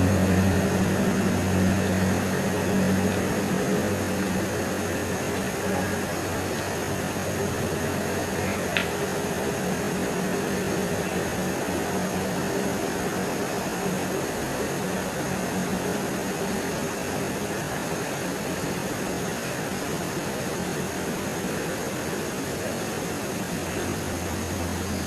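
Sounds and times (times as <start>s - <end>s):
faint high whine: 0.0s - 25.0s
steady hiss: 0.0s - 25.0s.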